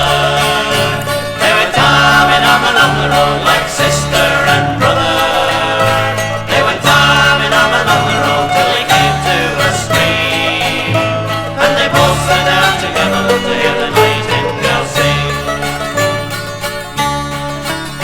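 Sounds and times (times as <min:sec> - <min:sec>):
banjo picking: 0:00.0 - 0:18.0
bass notes: 0:00.0 - 0:18.0
guitar: 0:00.0 - 0:18.0.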